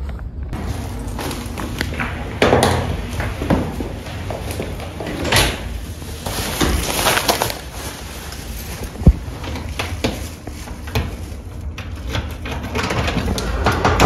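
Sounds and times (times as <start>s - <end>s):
footsteps knocking and clicking: 0.0s - 7.7s, 8.7s - 14.0s.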